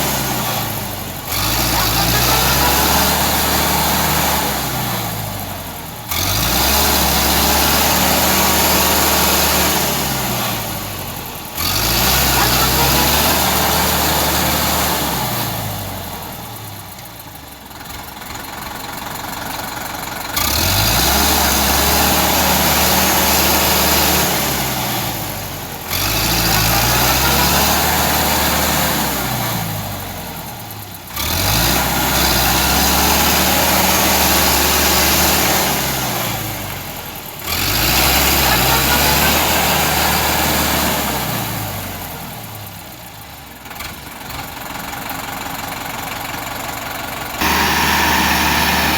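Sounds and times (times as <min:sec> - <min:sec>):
tractor engine revving: 0:00.0 - 0:48.9.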